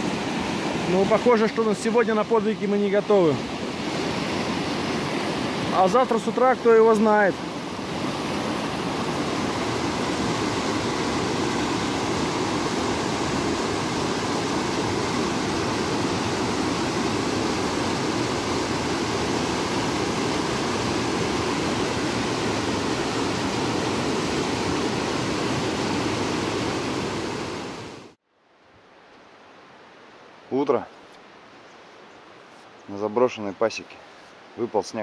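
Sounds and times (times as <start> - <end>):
river rapids roaring: 0.0 - 28.2.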